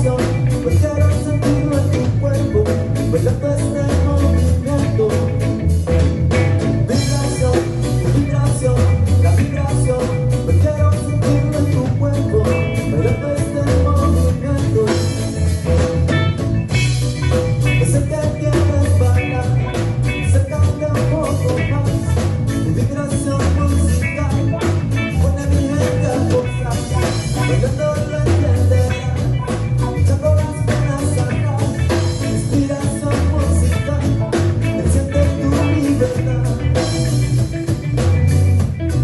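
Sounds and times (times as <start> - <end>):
ska band music: 0.0 - 39.0.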